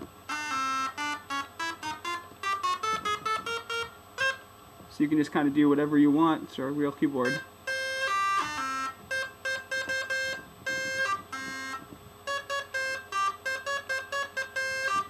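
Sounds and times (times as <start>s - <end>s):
buzzy synthesizer notes: 0.0s - 15.0s.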